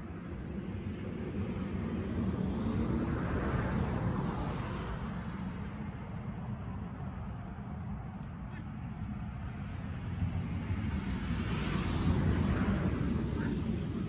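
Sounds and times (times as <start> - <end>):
distant engine passing by: 0.0 - 14.0.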